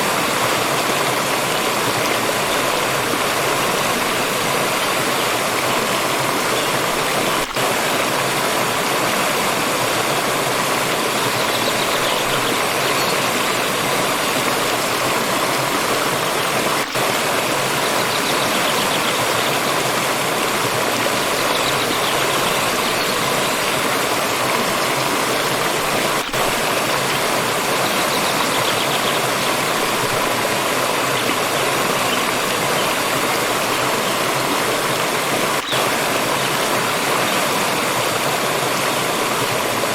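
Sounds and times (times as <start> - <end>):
stream splashing over rocks: 0.0 - 39.9.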